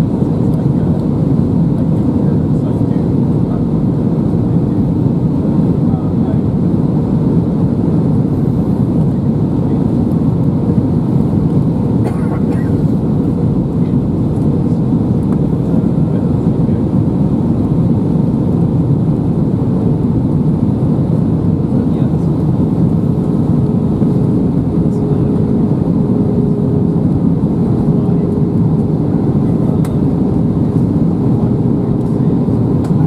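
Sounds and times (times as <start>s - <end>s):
airplane cabin engine rush: 0.0s - 33.0s.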